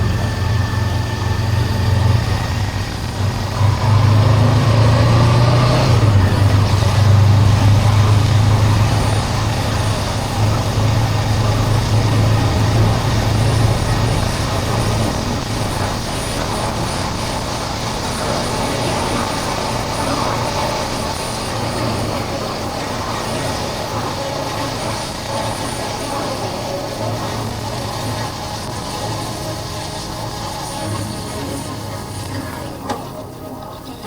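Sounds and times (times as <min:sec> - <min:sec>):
wind and road noise: 0:00.0 - 0:33.8
motorcycle engine droning: 0:00.0 - 0:34.0.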